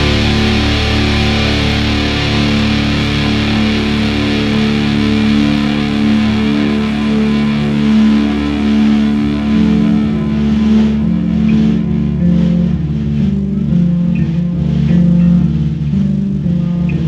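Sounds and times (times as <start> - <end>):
distorted electric guitar chord: 0.0 - 17.0.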